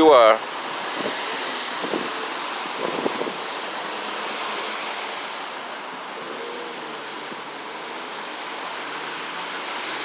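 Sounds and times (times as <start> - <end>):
expressway traffic rushing: 0.0 - 10.0.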